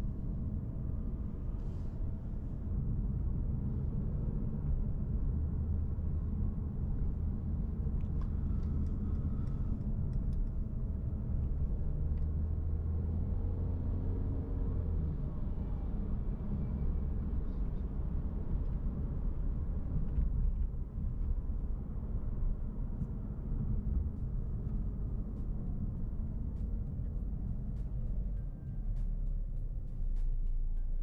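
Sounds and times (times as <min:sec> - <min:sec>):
car engine hum: 0:00.0 - 0:31.0
road and tyre rumble: 0:00.0 - 0:31.0.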